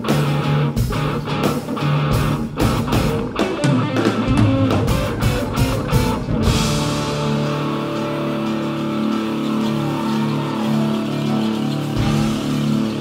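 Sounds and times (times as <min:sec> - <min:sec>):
bass guitar: 0:00.0 - 0:13.0
drum kit: 0:00.0 - 0:13.0
electric guitar: 0:00.0 - 0:13.0.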